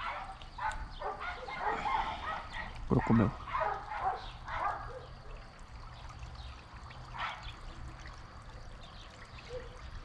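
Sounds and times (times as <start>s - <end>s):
creek trickling and flowing: 0.0s - 10.0s.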